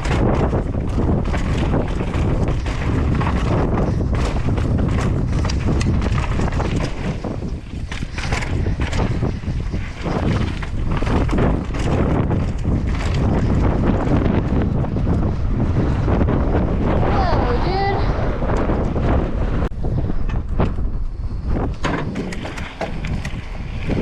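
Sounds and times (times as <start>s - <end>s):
bike rattling over rocky ground: 0.0s - 17.5s, 18.4s - 24.0s
wind buffeting microphone: 0.0s - 24.0s.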